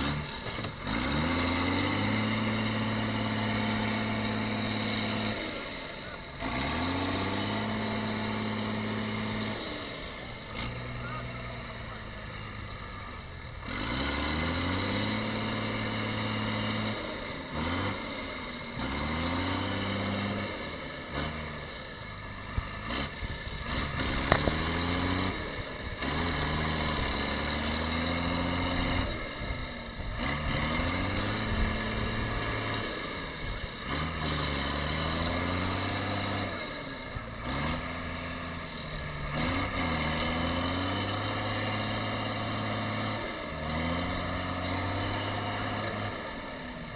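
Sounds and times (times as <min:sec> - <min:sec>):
tractor engine revving: 0:00.0 - 0:46.9.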